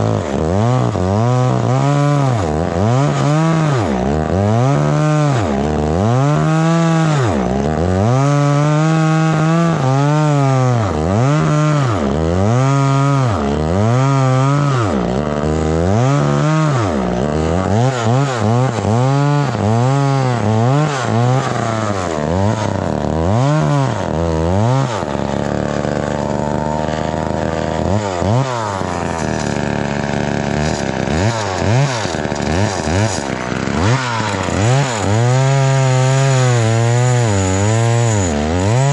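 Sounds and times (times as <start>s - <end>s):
chainsaw cutting: 0.0s - 38.9s.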